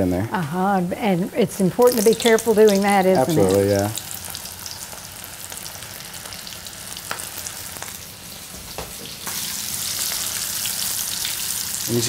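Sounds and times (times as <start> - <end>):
shrimp frying in hot oil: 1.7 - 12.0.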